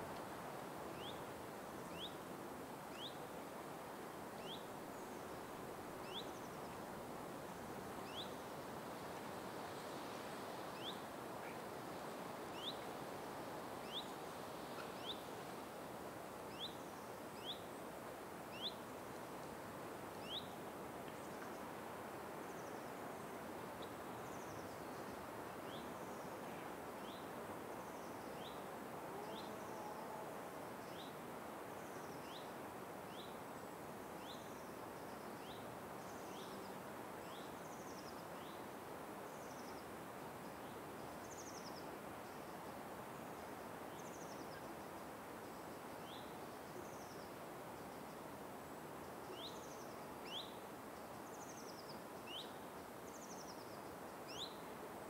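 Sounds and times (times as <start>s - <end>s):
forest ambience hiss: 0.0s - 55.0s.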